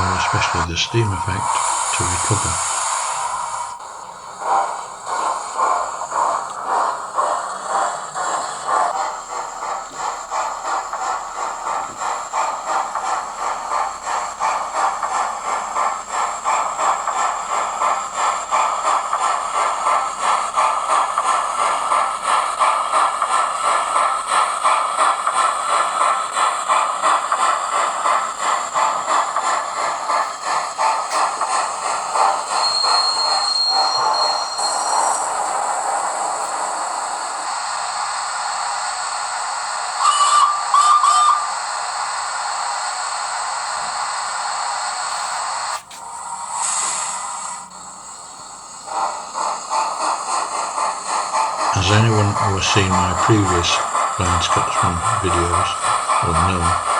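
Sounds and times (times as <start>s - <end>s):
steam locomotive chuffing from speaker: 0.0s - 56.9s.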